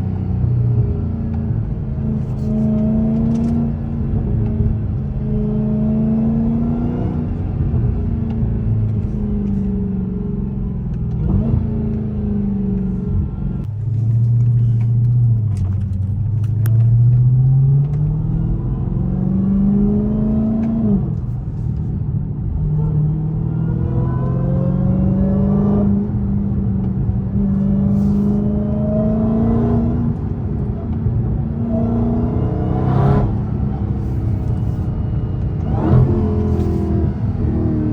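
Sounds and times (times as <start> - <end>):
car exhaust accelerating through gears: 0.0 - 37.9.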